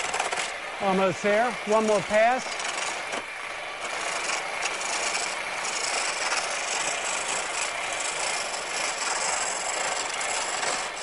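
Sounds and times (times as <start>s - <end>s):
gouge scraping wood on lathe: 0.0s - 11.0s.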